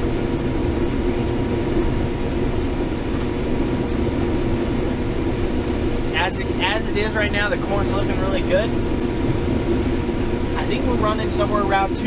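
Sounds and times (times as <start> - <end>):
combine harvester drone: 0.0 - 12.0
faint steady whine: 0.0 - 12.0.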